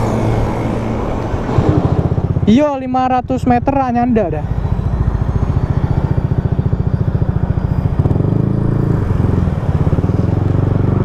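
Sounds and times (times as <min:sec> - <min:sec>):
motor scooter engine running: 0:01.2 - 0:11.0.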